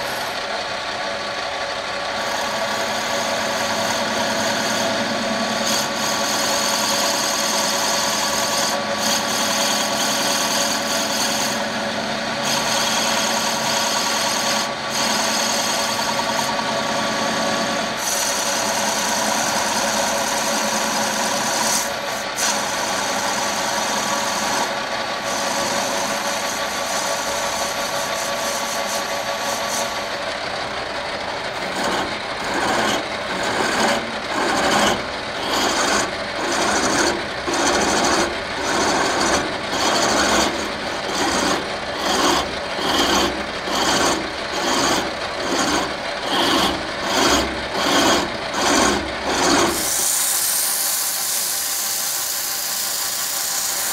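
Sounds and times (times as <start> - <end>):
file stroking turning wood: 0.0 - 0.4, 2.1 - 53.9
turning tool cutting wood: 0.0 - 0.5, 1.3 - 53.9
lathe running: 0.0 - 53.9.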